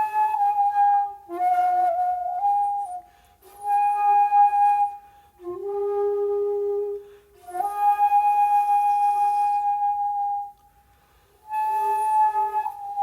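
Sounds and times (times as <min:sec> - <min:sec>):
bamboo flute long held notes: 0:00.0 - 0:13.0.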